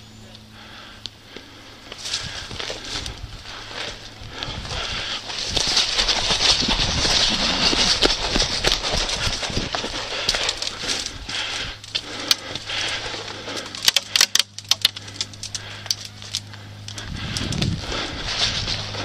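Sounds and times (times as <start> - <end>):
rustling haze: 0.0 - 19.0
steady low hum: 0.0 - 19.0.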